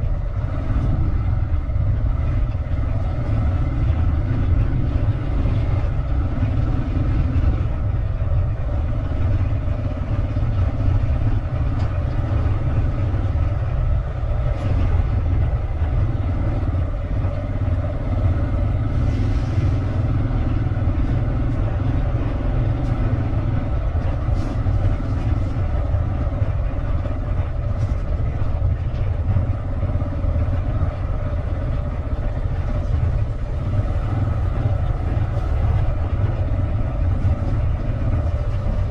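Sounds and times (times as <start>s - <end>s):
vehicle engine drone: 0.0s - 38.9s.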